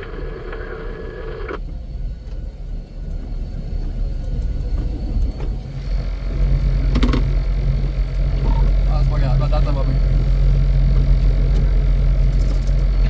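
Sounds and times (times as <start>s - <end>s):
heavy machinery engine rumbling: 0.0s - 13.0s.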